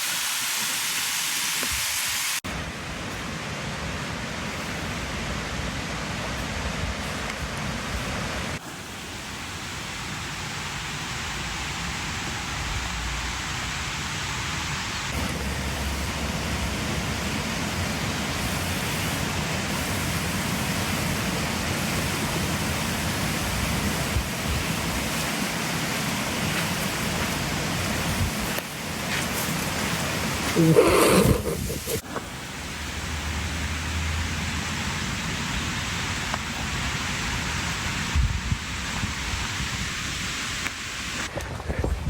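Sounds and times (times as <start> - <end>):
waterfall rushing water: 0.0 - 41.3.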